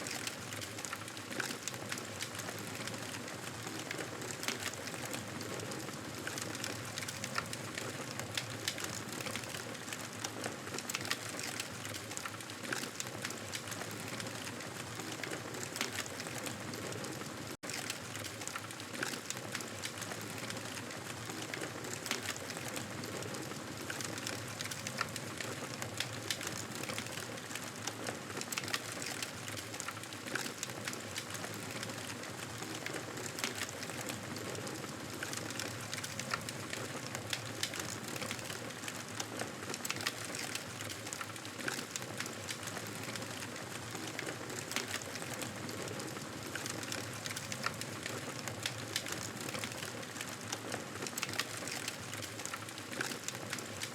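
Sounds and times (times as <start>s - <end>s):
wood fire crackling in fireplace: 0.0s - 53.9s.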